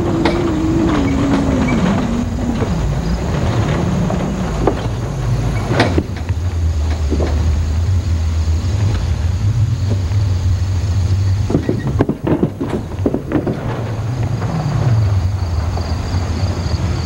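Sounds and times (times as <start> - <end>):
truck engine running low: 0.0 - 17.0
wheels knocking on wooden planks: 0.0 - 17.0.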